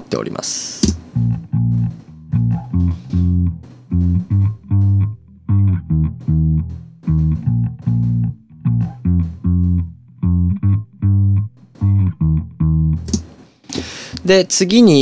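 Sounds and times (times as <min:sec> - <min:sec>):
electric bass plucked notes: 0:00.7 - 0:13.3.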